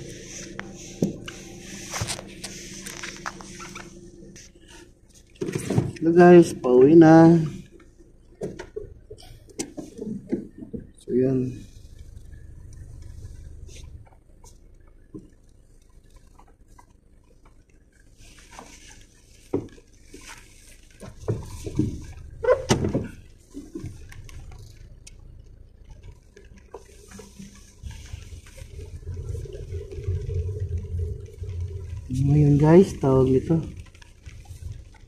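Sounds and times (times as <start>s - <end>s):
car rumbling moving slowly: 0.0s - 35.0s
raindrops ticking on car: 0.0s - 35.0s.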